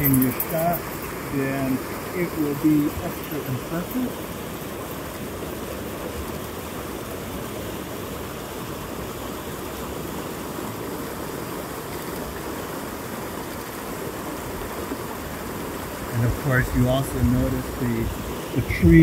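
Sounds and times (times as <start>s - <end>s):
creek rushing: 0.0s - 19.0s.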